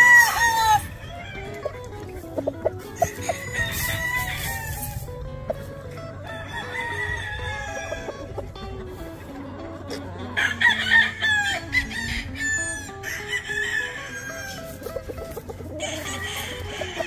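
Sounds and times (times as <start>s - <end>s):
roosters clucking: 0.0s - 17.0s
roosters crowing: 0.0s - 17.0s.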